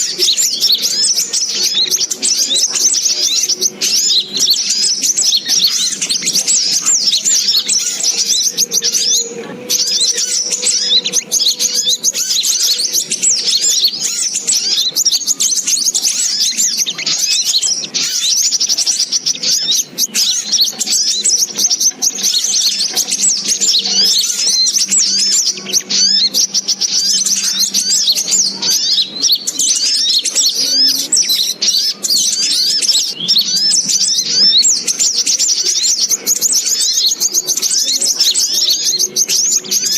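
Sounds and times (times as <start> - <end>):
rapid high bird chirping: 0.0 - 39.9.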